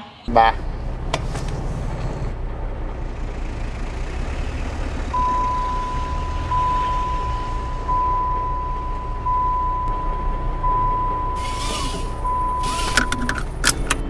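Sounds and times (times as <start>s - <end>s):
car interior rumble: 0.3s - 14.0s.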